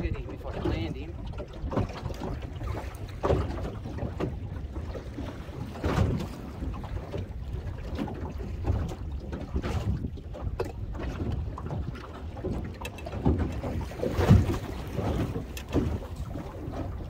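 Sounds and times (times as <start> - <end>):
water moving around boat: 0.0 - 17.0
wind rumbling on microphone: 0.0 - 17.0.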